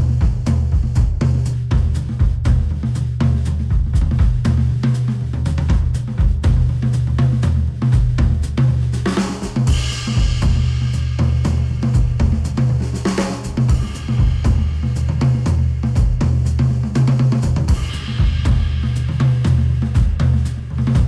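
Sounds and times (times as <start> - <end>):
instrumental music with drums and bass: 0.0 - 21.0.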